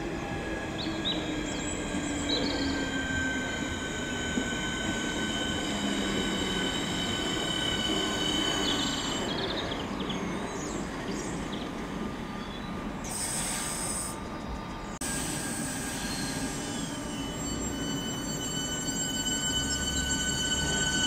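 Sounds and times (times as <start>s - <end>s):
high-pitched train squeal: 0.0s - 11.1s, 13.0s - 14.4s, 15.0s - 21.0s
electric train rumble: 0.0s - 21.0s.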